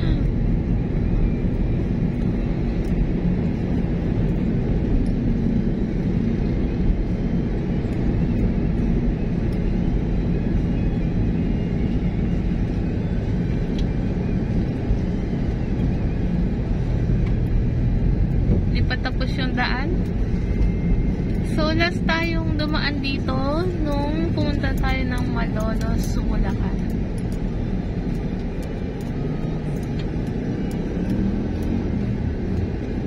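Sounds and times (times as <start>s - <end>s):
car engine and tyres rumbling: 0.0s - 33.0s.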